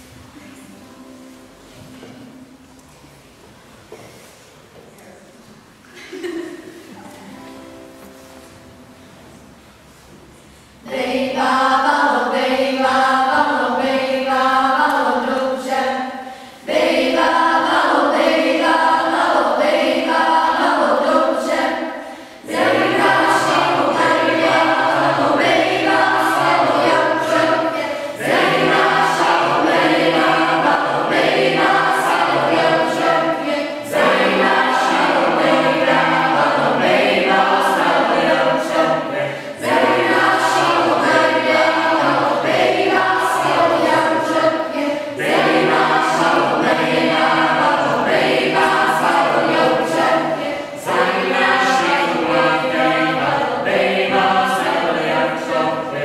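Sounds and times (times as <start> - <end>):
children's choir singing: 6.2 - 56.0.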